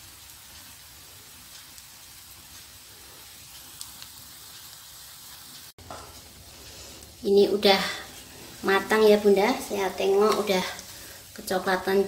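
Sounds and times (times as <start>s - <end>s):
omelette sizzling in a pan: 0.0s - 12.0s.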